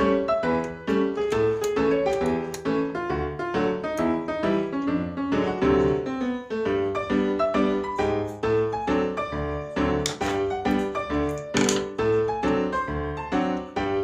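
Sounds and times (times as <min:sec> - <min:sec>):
upbeat ragtime piano music: 0:00.0 - 0:14.0.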